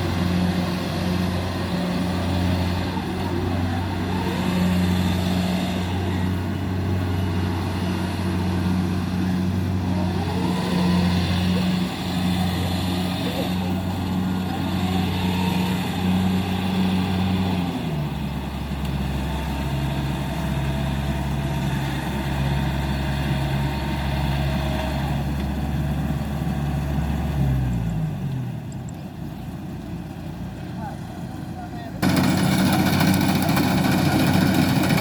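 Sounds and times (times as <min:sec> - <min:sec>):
combine harvester diesel engine: 0:00.0 - 0:35.0.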